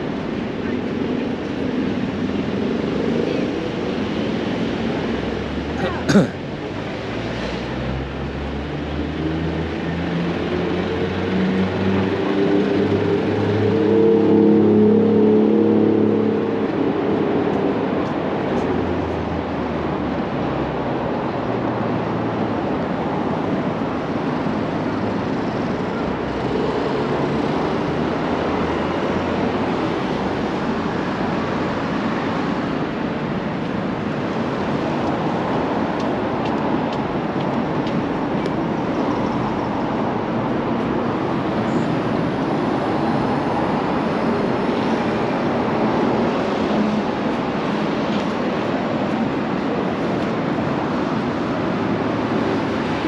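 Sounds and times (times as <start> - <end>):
road traffic noise: 0.0 - 53.0.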